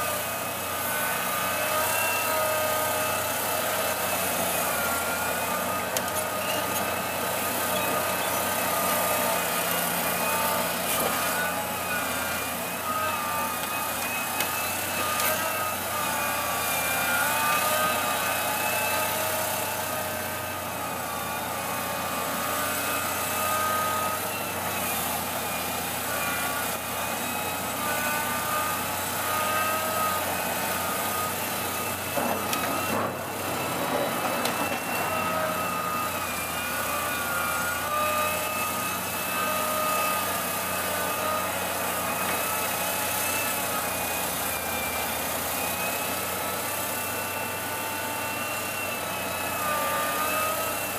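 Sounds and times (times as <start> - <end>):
excavator engine and whine: 0.0 - 50.9.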